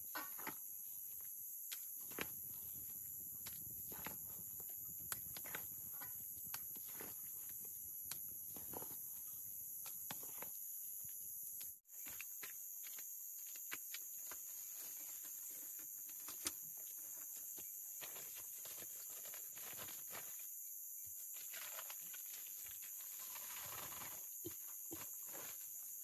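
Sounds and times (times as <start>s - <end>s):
night insects chorus: 0.0s - 26.0s.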